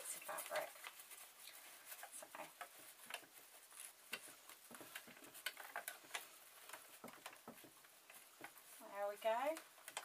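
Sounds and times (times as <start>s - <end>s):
fabric rustling: 0.0s - 10.0s.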